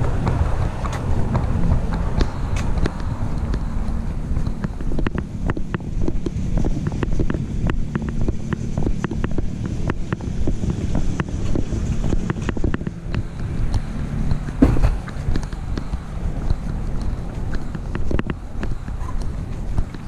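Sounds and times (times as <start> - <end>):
wind rumble on microphone: 0.0 - 20.0
camera clicks and knocks from walking: 0.2 - 20.0.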